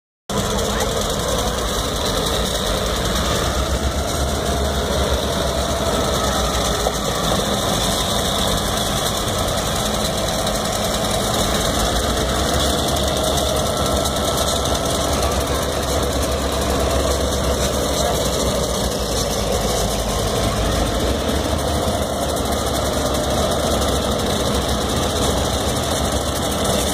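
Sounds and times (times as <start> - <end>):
diesel locomotives rumbling: 0.3 - 26.9.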